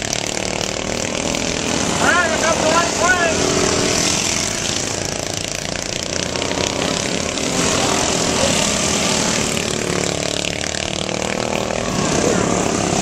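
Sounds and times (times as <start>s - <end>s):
riding lawn mower engines racing: 0.0s - 13.0s.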